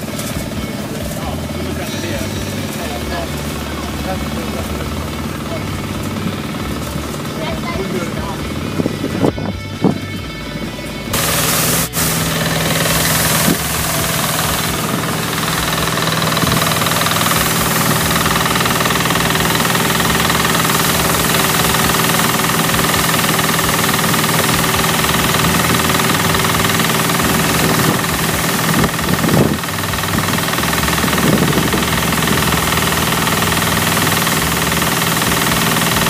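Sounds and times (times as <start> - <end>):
threshing machine: 0.0 - 36.0
tractor engine running under load: 0.0 - 36.0.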